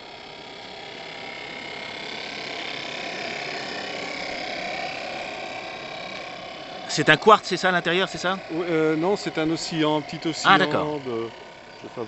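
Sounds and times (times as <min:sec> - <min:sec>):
model steam engine hissing: 0:00.0 - 0:12.0.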